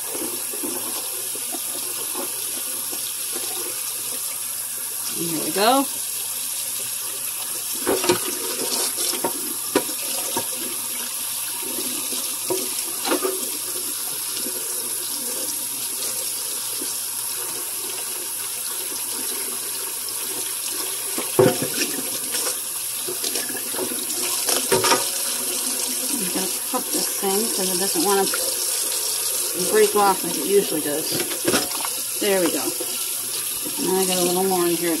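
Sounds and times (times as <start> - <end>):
faucet running into a steel sink: 0.0 - 35.0.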